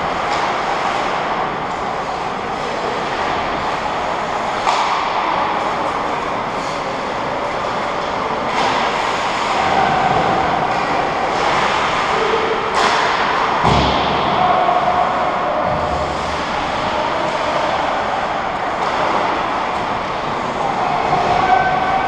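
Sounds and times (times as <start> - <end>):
hockey sticks and puck clacking: 0.0 - 22.0.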